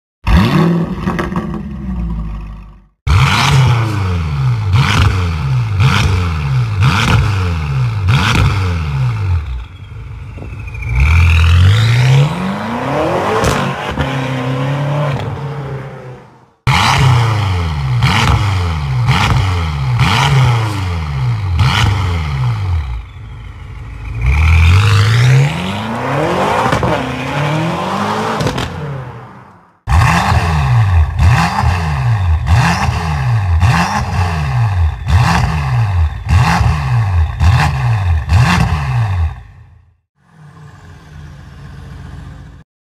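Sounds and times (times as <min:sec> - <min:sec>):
car engine revving: 0:03.1 - 0:39.6.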